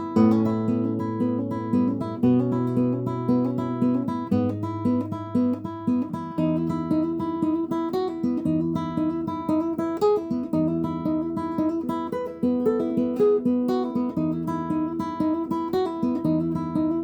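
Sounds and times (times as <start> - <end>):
acoustic guitar fingerpicking: 0.0 - 17.0.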